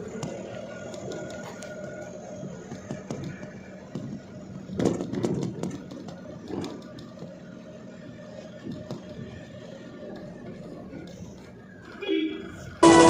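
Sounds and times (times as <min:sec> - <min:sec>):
engine clattering and knocks: 0:00.0 - 0:12.9
vehicle engine running: 0:00.0 - 0:13.0.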